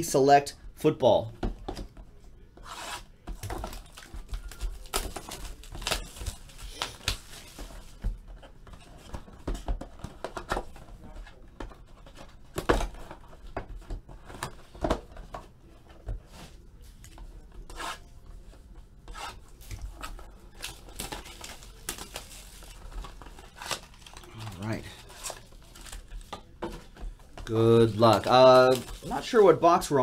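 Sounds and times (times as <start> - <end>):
cardboard and wrappers rustling: 2.6 - 18.6, 19.2 - 30.0.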